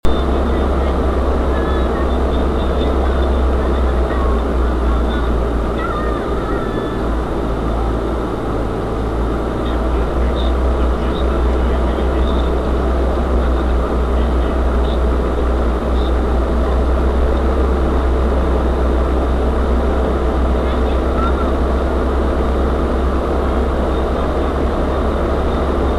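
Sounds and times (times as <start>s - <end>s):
van engine droning: 0.0s - 25.9s.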